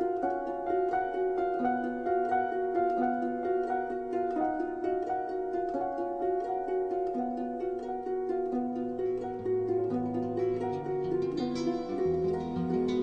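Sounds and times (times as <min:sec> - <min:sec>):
plucked string instrumental music: 0:00.0 - 0:13.0.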